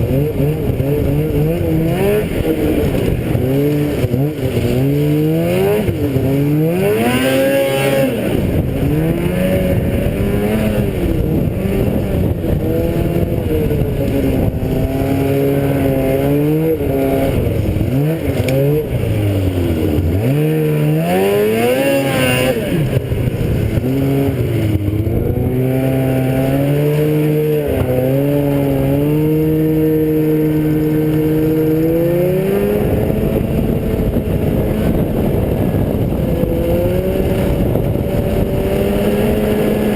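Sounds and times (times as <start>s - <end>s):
small vehicle engine revving: 0.0s - 39.9s.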